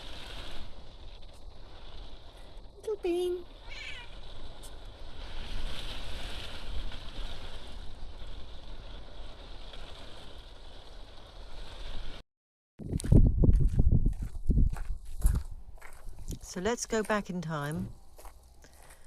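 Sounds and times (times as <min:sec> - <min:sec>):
wind blowing across microphone: 0:00.0 - 0:12.2, 0:12.8 - 0:18.9.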